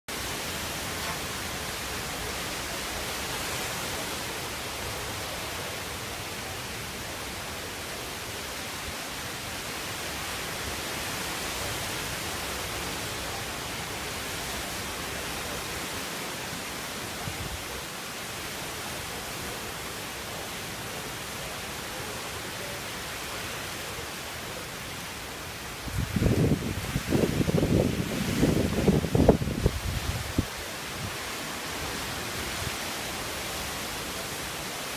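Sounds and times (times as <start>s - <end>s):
wind and heavy rain: 0.1s - 34.9s.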